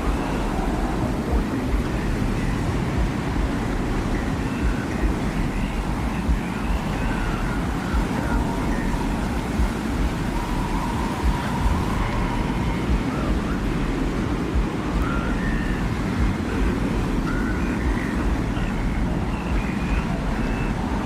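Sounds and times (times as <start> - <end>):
deep rumbling wind: 0.0 - 21.0
faint whistling tones: 0.0 - 21.0.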